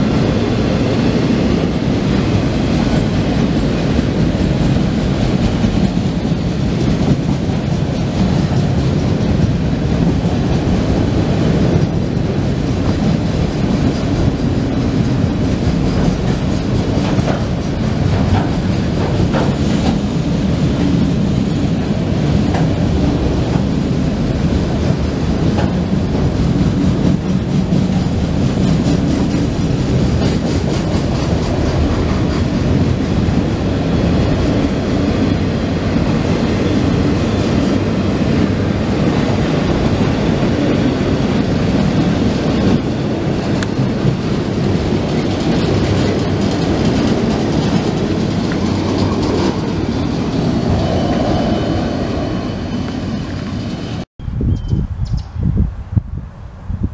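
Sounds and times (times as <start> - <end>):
train wheels rumbling on rails: 0.0 - 54.1
wheels clicking over rail joints: 0.1 - 51.4.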